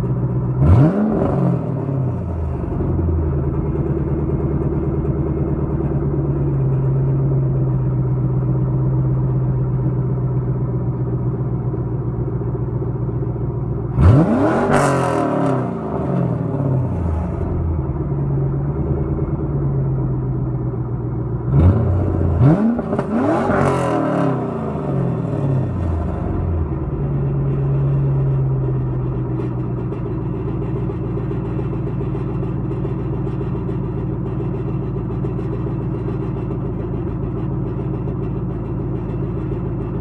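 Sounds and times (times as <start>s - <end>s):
car engine idling and revving: 0.0s - 40.0s
muffler rattle: 1.8s - 14.2s, 15.9s - 23.8s, 24.8s - 40.0s.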